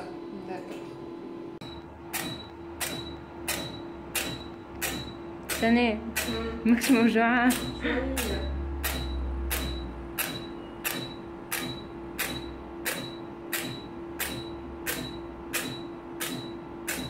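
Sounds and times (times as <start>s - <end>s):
machine low hum: 0.0s - 17.0s
machine clicks with high beeps: 1.6s - 17.0s.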